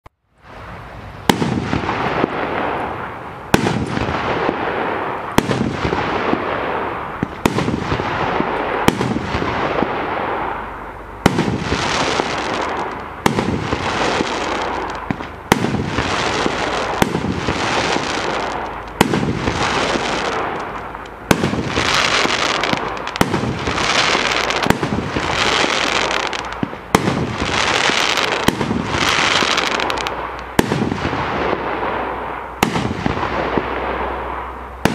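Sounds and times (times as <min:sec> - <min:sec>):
firework bangs: 0:00.4 - 0:34.9
hissing crackling firework spray: 0:00.4 - 0:34.9.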